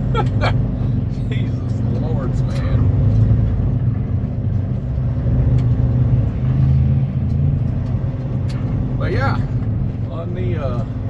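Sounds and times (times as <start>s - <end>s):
road noise: 0.0s - 11.0s
truck diesel engine running: 0.0s - 11.0s.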